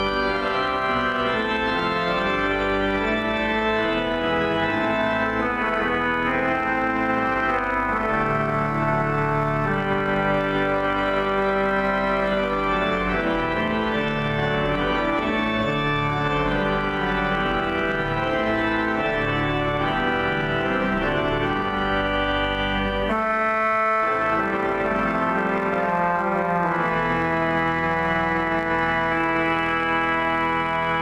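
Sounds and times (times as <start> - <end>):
deep organ pedal bass: 0.0 - 31.0
pipe organ chords: 0.0 - 31.0.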